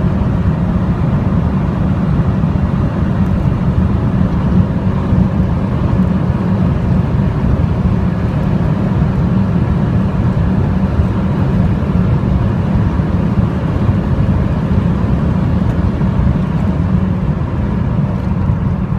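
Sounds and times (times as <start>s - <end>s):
car engine drone at high speed: 0.0s - 18.9s
wind and tyre noise: 0.0s - 18.9s.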